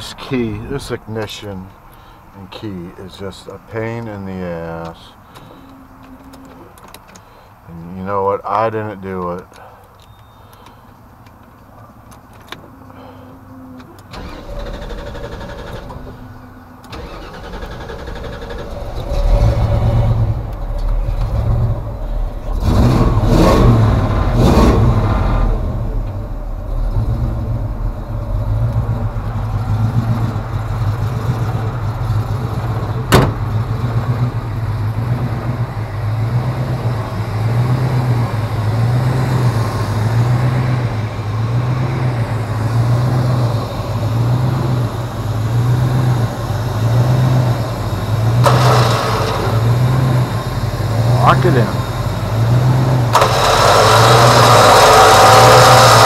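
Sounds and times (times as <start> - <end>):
vehicle engine starting and running: 0.0 - 56.0.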